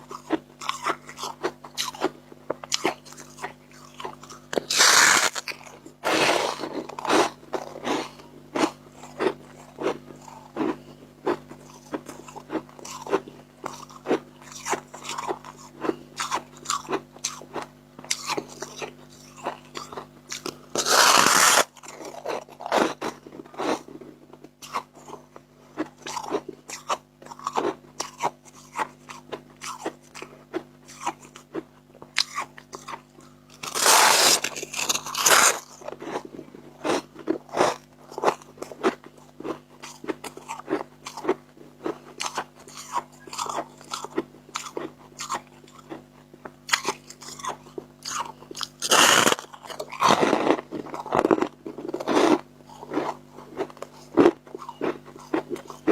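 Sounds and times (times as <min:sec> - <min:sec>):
crunching frost being chewed: 0:00.0 - 0:55.9.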